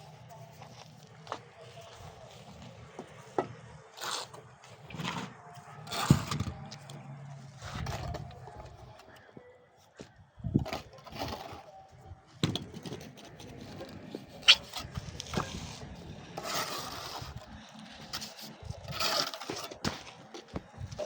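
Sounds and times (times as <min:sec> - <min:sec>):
hand tools scraping masonry: 0:00.2 - 0:09.2, 0:10.5 - 0:11.7, 0:12.6 - 0:21.0.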